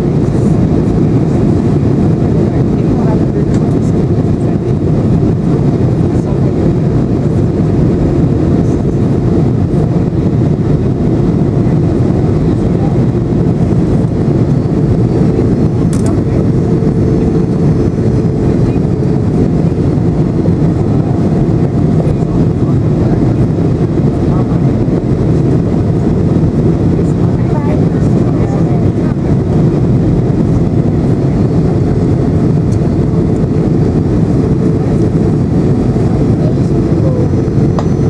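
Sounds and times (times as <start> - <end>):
jet engine roar in cabin: 0.0 - 38.0
rushing airflow: 0.0 - 38.0.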